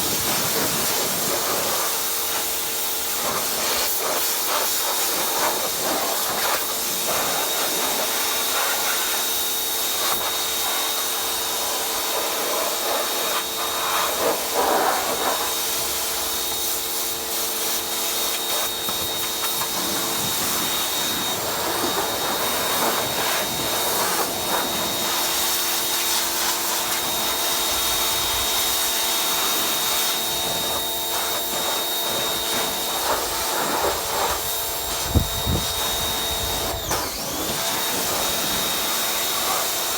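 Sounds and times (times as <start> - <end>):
pressure washer jet hissing: 0.0 - 39.9
motor whine: 5.4 - 39.9.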